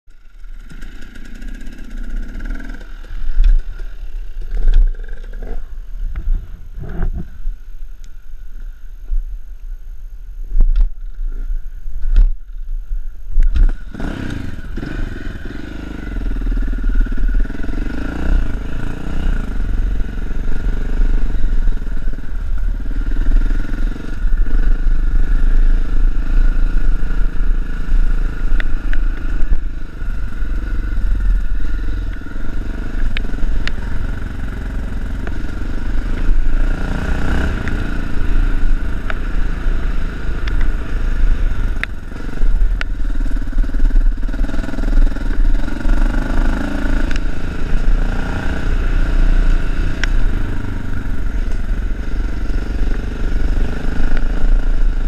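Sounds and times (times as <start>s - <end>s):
dirt bike engine: 0.1s - 9.3s, 10.1s - 55.0s.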